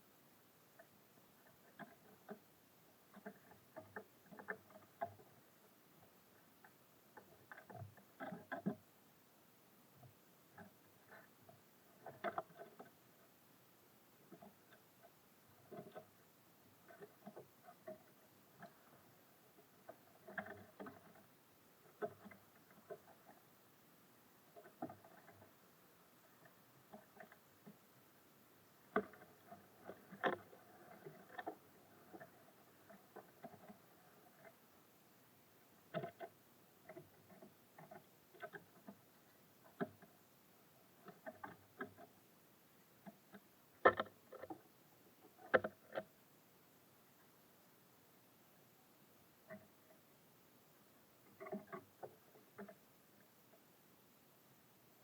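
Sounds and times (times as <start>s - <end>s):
birds pecking and hopping: 0.0s - 46.4s.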